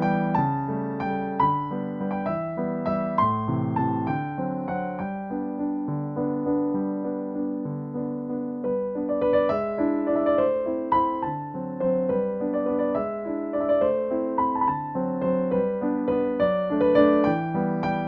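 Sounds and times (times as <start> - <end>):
gentle electric piano melody: 0.0 - 18.0.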